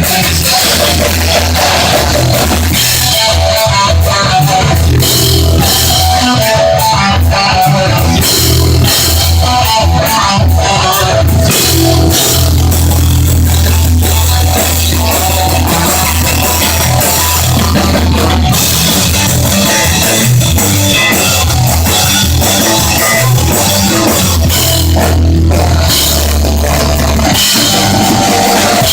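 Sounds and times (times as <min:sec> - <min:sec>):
distorted electric guitar: 0:00.0 - 0:28.9
heavy bass: 0:00.0 - 0:28.9
pounding drum kit: 0:00.0 - 0:28.9.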